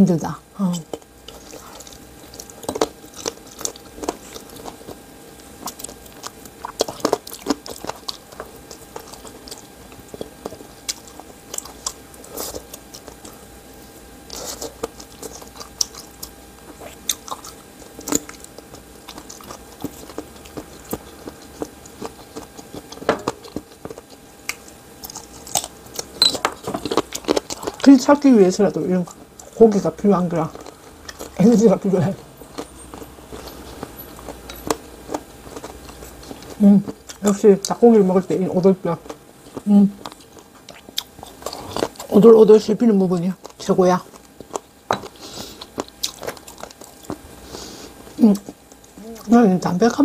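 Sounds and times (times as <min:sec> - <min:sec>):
person chewing chicken: 0:00.7 - 0:28.1, 0:29.0 - 0:42.3, 0:43.2 - 0:49.4.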